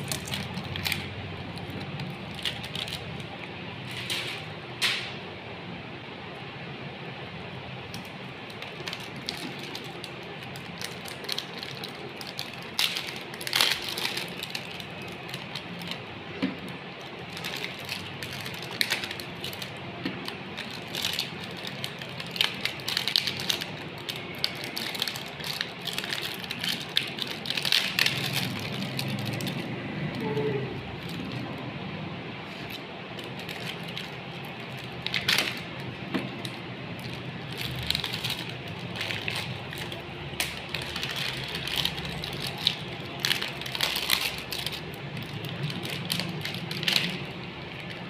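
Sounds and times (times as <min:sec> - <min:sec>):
candy crackling in grinder: 0:00.0 - 0:05.1, 0:07.1 - 0:48.0.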